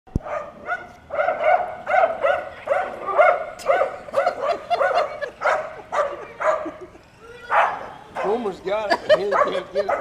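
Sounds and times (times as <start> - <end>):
dog yipping excitedly: 0.2 - 8.6, 9.2 - 10.0.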